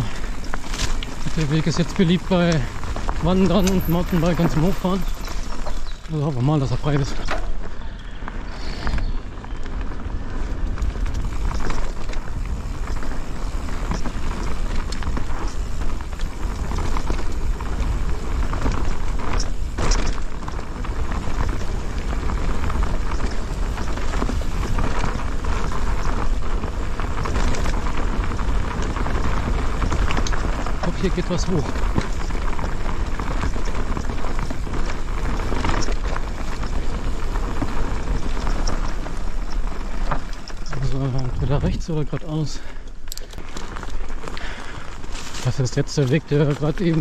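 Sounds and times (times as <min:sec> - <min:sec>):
bike rattling over bumps: 0:00.0 - 0:47.0
tyres rolling on dirt: 0:00.0 - 0:47.0
wind buffeting microphone: 0:00.0 - 0:47.0.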